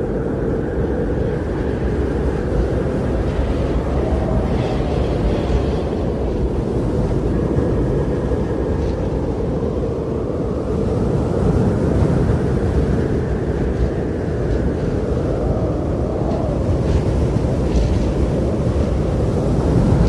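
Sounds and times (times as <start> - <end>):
strong blizzard wind: 0.0 - 20.0.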